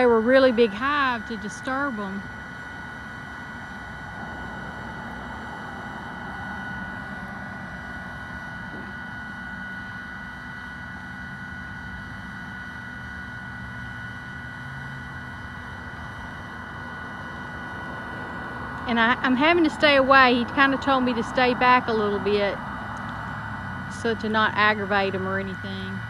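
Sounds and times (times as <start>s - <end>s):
bee vacuum motor whine: 0.0s - 26.0s.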